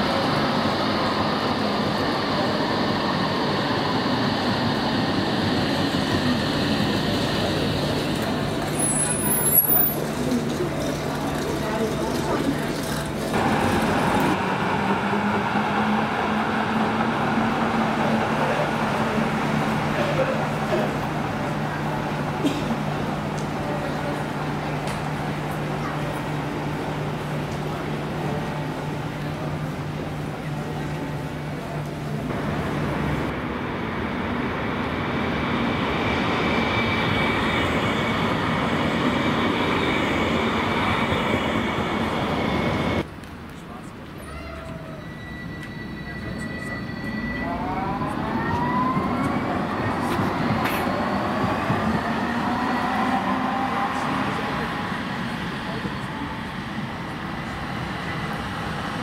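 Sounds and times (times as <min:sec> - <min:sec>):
tram electric hum: 0:00.0 - 0:59.0
wheels rumbling on rail: 0:00.0 - 0:59.0.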